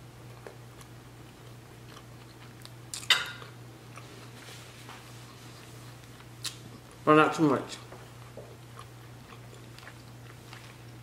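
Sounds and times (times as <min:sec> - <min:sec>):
steady low hum: 0:00.0 - 0:11.0
chewing soft food: 0:00.2 - 0:07.0, 0:07.8 - 0:11.0.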